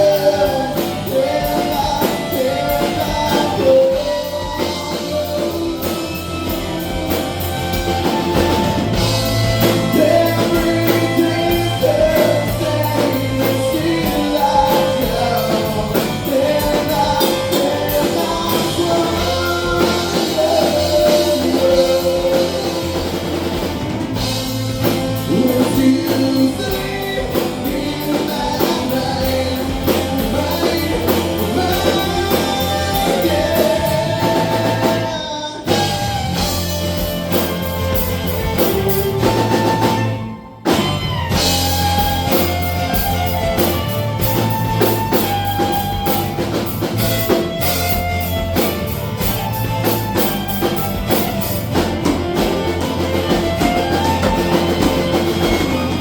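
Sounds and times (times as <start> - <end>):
drums: 0.0 - 56.0
person singing: 0.0 - 56.0
steady bass line: 0.0 - 56.0.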